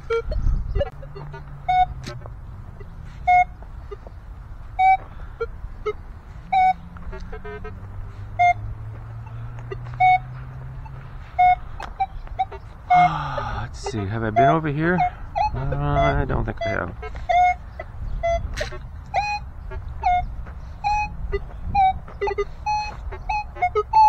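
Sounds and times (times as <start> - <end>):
metal detector beeping: 0.0 - 2.2, 2.8 - 4.1, 4.7 - 7.7, 8.4 - 24.0.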